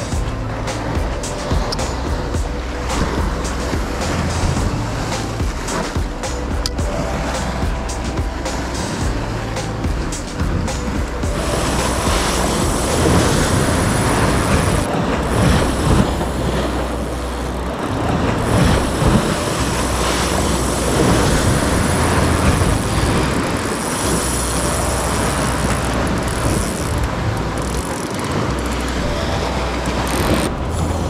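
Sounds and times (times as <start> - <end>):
sea surf washing against rocks: 0.0 - 31.0
wind rumble on microphone: 0.0 - 31.0.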